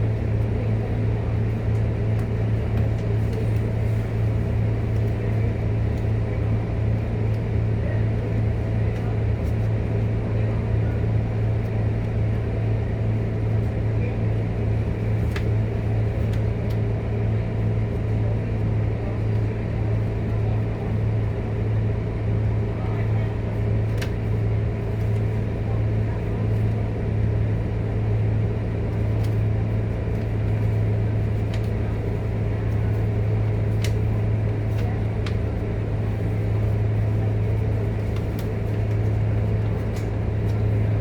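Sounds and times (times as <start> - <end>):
diesel bus engine droning: 0.0 - 41.0.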